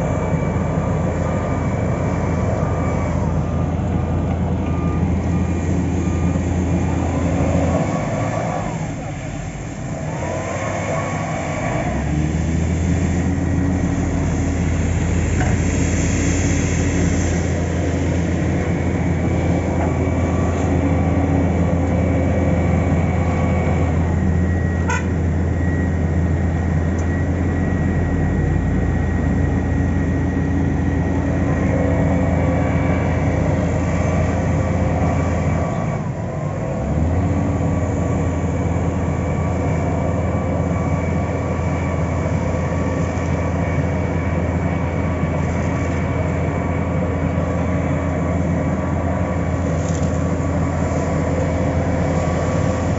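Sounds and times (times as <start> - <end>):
paving machinery engine drone: 0.0 - 52.9.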